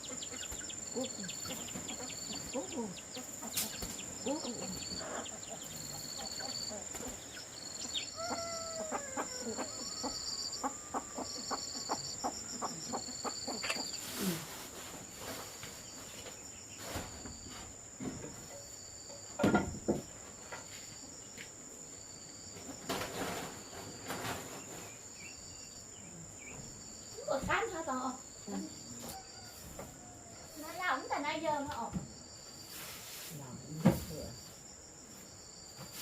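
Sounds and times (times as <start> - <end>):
high insect whine: 0.0 - 36.0.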